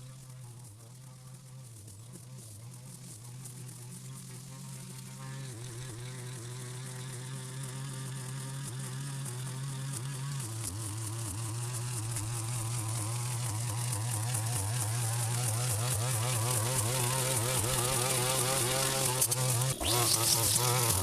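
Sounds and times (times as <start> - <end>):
string trimmer engine buzzing: 0.0 - 21.0.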